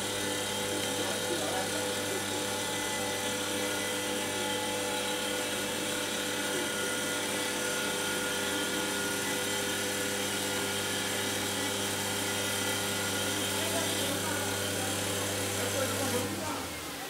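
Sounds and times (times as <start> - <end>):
machine motors humming and whining: 0.0 - 17.0.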